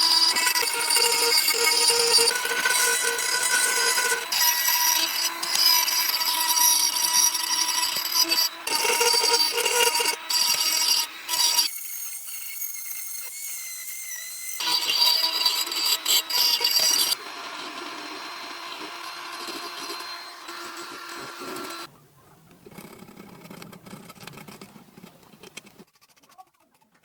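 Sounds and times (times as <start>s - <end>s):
power tool machining bamboo: 0.0s - 21.9s.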